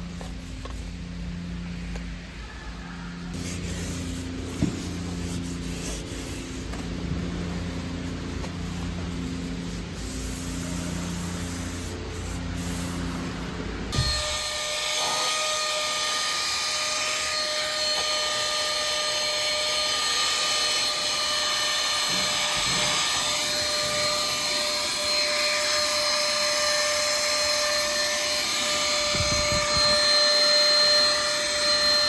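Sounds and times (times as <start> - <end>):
vacuum cleaner running: 2.8 - 32.0.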